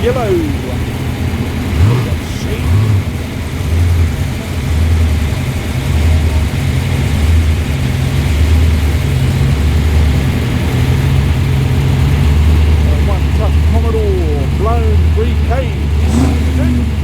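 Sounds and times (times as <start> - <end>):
muscle car engine idling: 0.0 - 17.0.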